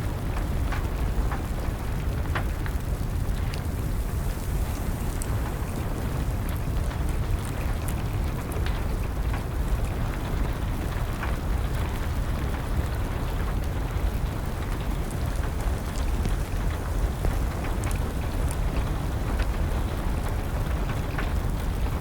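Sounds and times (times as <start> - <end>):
rain: 0.0 - 22.0
wood fire crackling: 0.0 - 22.0.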